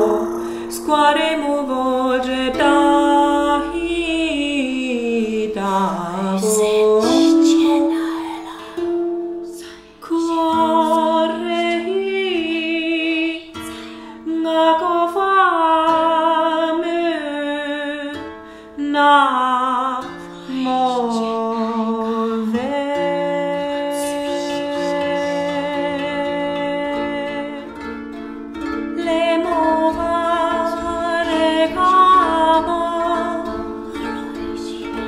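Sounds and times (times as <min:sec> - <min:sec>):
woman singing wordless notes: 0:00.0 - 0:27.8, 0:29.0 - 0:35.0
koto plucked notes: 0:00.0 - 0:35.0.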